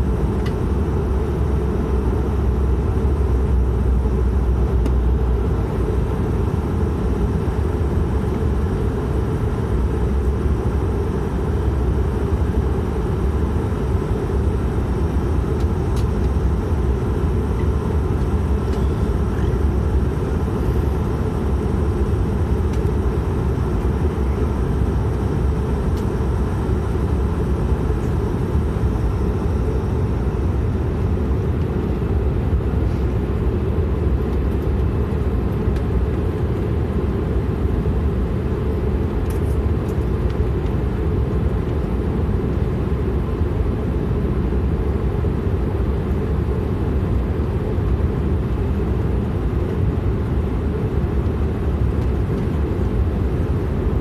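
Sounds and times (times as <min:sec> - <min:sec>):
turboprop engine deep drone: 0:00.0 - 0:54.0.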